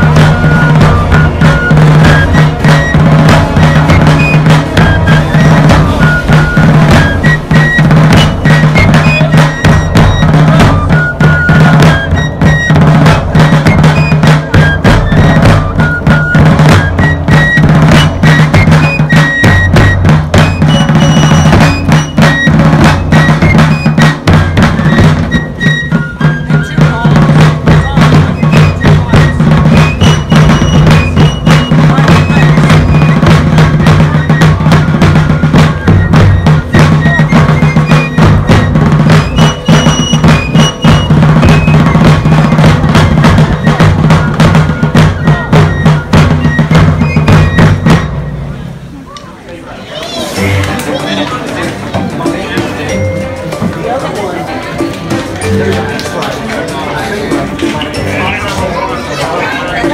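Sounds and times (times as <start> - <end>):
bass drum beats: 0.0 - 48.8
fifes playing melody: 0.0 - 48.8, 50.3 - 59.9
snare drum rolls: 0.0 - 48.8.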